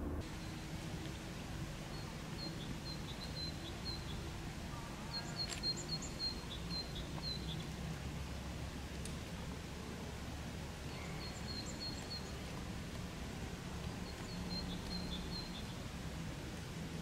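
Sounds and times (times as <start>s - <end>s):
songbird chirping: 0.0s - 16.6s
low outdoor rumble: 0.0s - 17.0s.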